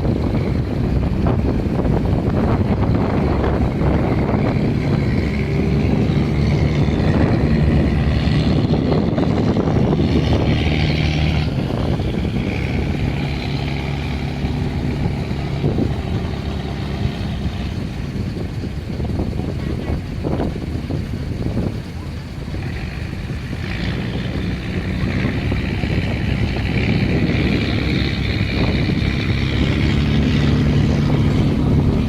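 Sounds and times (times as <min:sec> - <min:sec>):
heavy engine humming: 0:00.0 - 0:32.0
wind buffeting microphone: 0:00.0 - 0:32.0.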